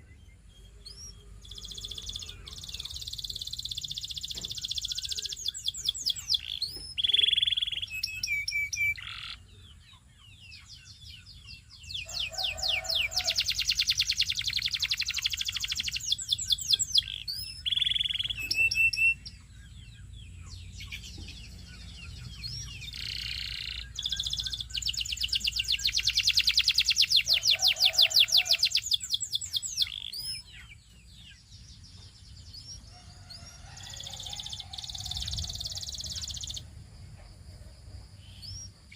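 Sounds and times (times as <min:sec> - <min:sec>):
canary singing fast trills: 0:00.0 - 0:38.9.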